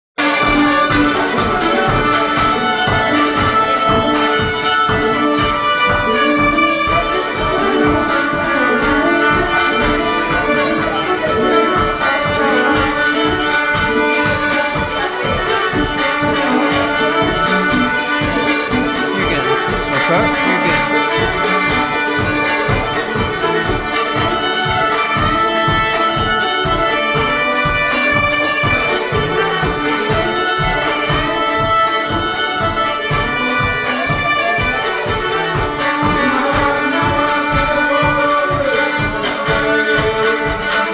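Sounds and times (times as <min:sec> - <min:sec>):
fiddle playing dance tune: 0:00.2 - 0:40.9
rhythmic accompaniment with bass: 0:00.2 - 0:40.9.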